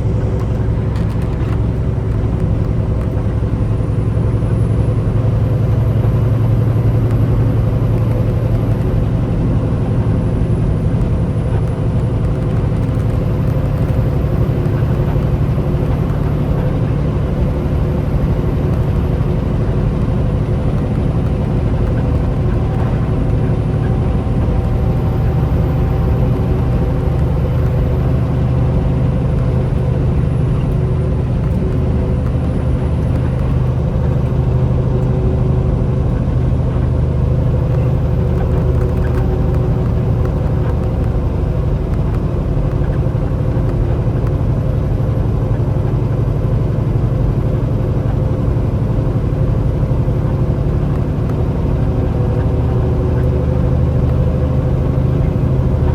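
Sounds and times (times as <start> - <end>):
diesel truck engine running: 0.0 - 55.9.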